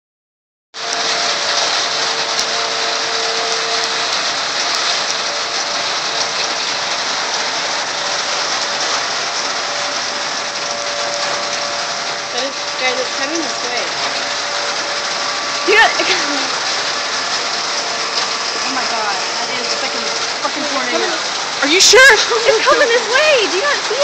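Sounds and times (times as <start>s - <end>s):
heavy rain: 0.8s - 24.0s.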